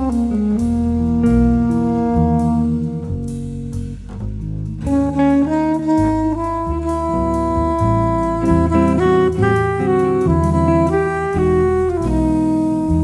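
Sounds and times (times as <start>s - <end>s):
bass line: 0.0s - 13.0s
drums: 0.0s - 13.0s
held melody line: 0.0s - 13.0s.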